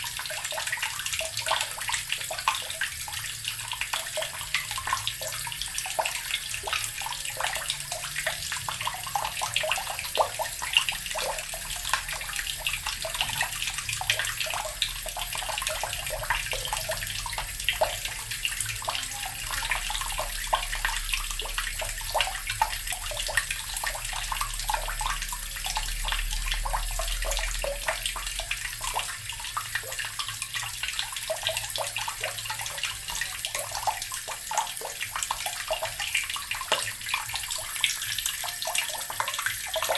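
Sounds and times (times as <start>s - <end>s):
tap water splashing into basin: 0.0s - 39.9s.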